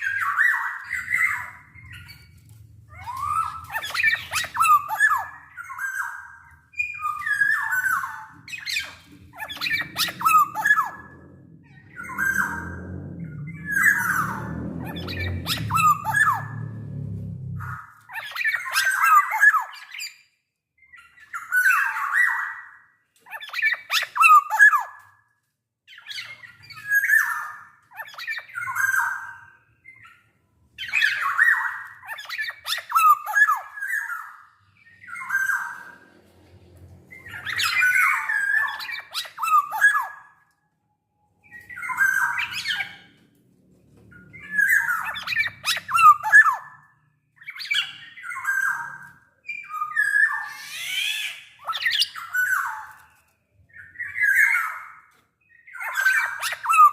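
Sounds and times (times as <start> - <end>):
bird calling with whistled and harsh notes: 0.0 - 25.0, 25.9 - 36.0, 37.1 - 40.4, 44.1 - 56.9.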